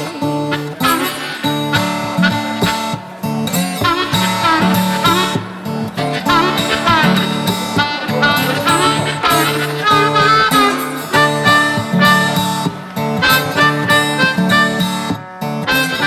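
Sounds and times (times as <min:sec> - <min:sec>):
harmonica: 0:00.0 - 0:15.1
strummed acoustic guitar: 0:00.0 - 0:16.0.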